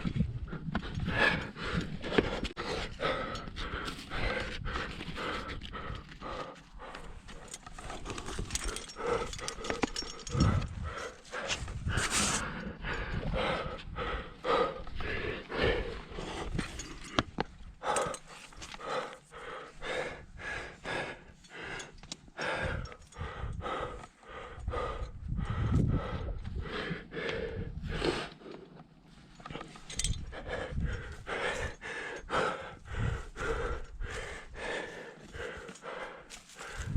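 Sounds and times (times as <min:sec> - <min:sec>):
person panting hard: 0:00.0 - 0:28.8, 0:29.4 - 0:36.9.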